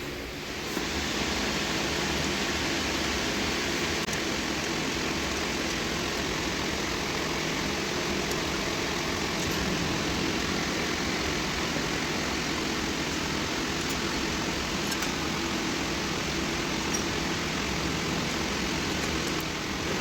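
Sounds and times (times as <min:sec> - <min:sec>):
car engine idling: 0:03.4 - 0:20.0.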